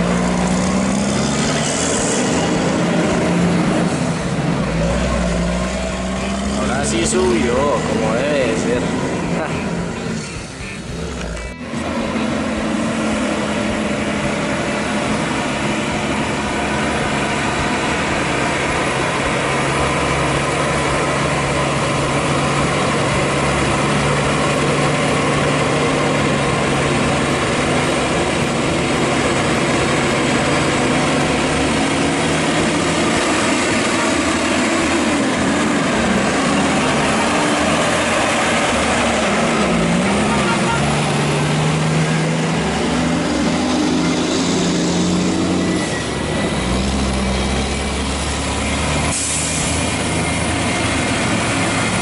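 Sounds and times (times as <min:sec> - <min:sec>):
truck diesel engine droning: 0:00.0 - 0:52.0.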